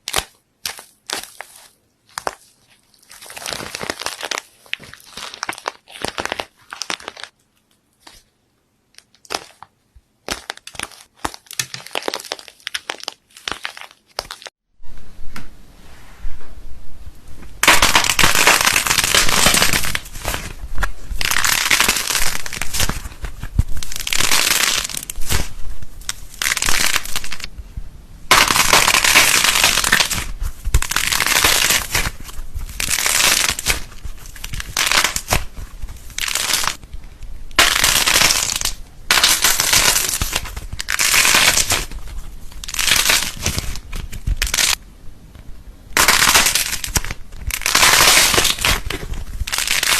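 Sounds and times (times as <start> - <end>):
slime squeezed crackling and popping: 0.0 - 7.4, 9.0 - 14.5, 17.6 - 27.5, 28.3 - 44.8, 46.0 - 49.9.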